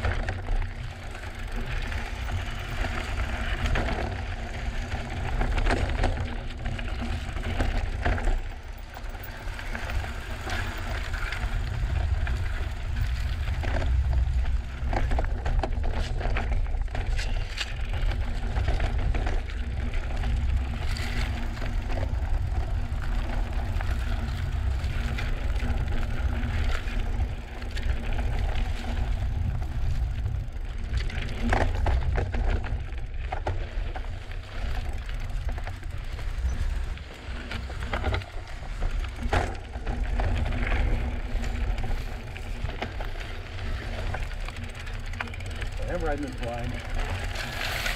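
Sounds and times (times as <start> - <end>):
bike clicks and knocks: 0.0 - 47.9
wind rumble on microphone: 0.0 - 47.9.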